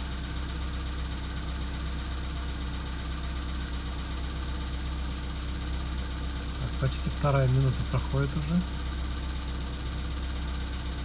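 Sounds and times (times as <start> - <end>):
car engine idling with knock: 0.0 - 11.0.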